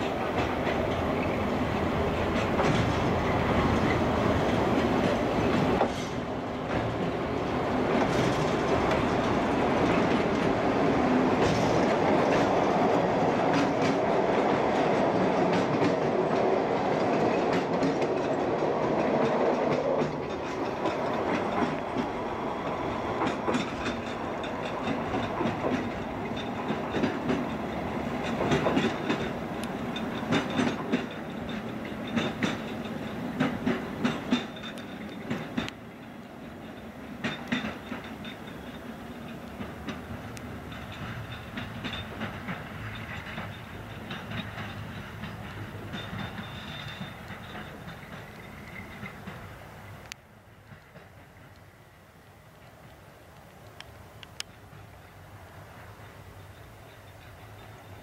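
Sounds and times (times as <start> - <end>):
wheels clacking over rail joints: 0.0 - 51.9, 52.5 - 58.0
train engine running: 0.0 - 58.0.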